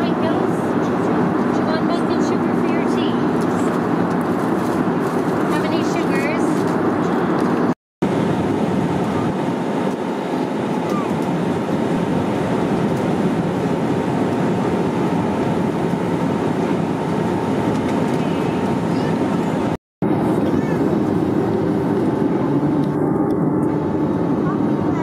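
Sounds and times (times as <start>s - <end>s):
airliner cabin engine noise: 0.0s - 25.0s.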